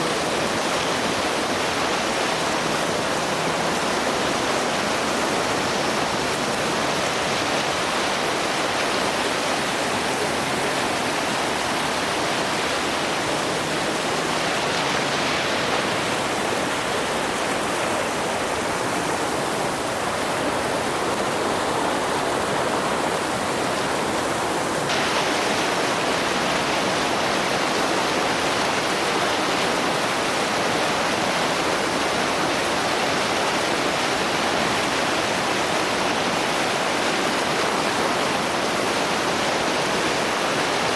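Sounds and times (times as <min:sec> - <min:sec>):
roar of rushing white water: 0:00.0 - 0:40.9.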